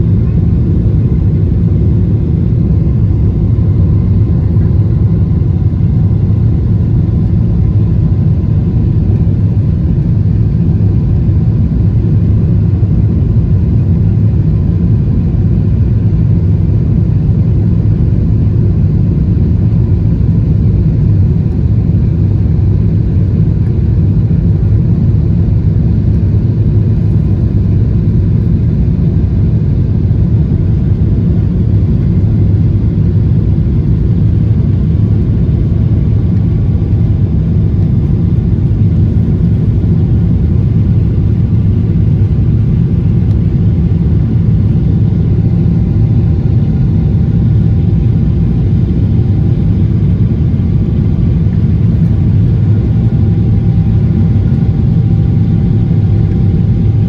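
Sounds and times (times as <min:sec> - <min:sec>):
airplane engines rumbling: 0:00.0 - 0:57.0
faint steady whine: 0:00.0 - 0:57.0.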